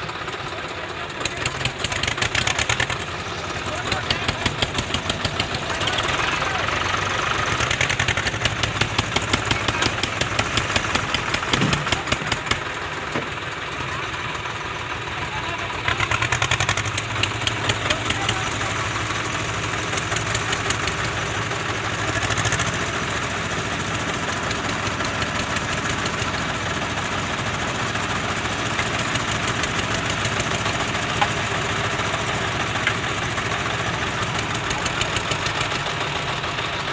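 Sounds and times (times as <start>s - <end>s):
tractor diesel engines knocking: 0.0s - 36.9s.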